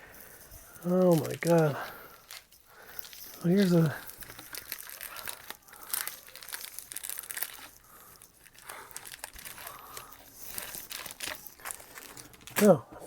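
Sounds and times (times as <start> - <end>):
foil packs crinkling: 0.0 - 13.0.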